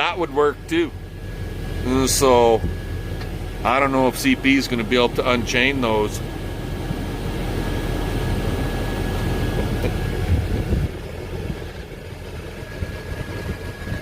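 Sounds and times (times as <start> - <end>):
faint steady whine: 0.0 - 14.0
tractor engine idling: 0.0 - 14.0.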